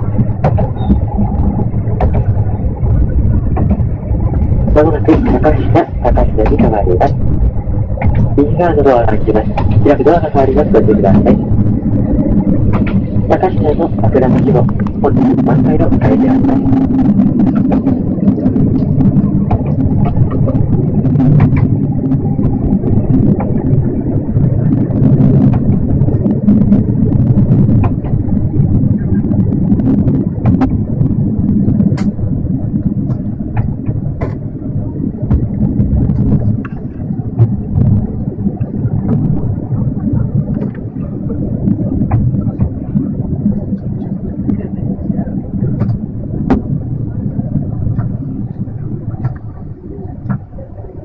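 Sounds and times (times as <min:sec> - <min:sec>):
railcar engine and wheel rumble: 0:00.0 - 0:51.0.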